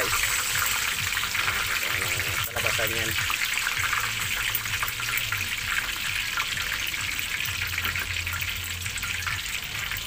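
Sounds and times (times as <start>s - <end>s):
pork deep-frying in oil: 0.0s - 10.0s.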